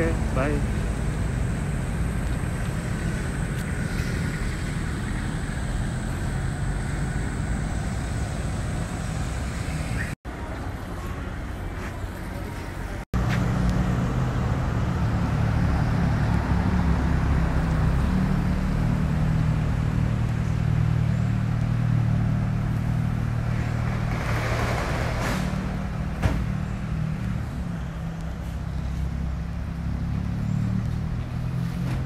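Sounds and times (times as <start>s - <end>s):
vehicle engine droning: 0.0s - 32.0s.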